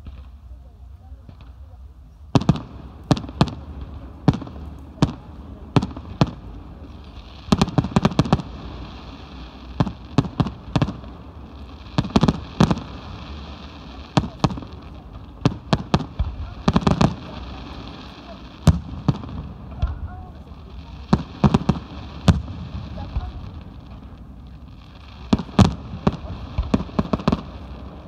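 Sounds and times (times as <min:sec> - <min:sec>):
fireworks bursting with sharp bangs: 0:00.0 - 0:28.0.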